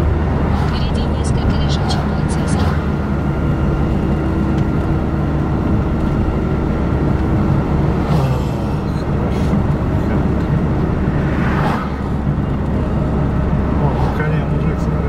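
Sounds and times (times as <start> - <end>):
road and engine rumble in car: 0.0 - 15.0.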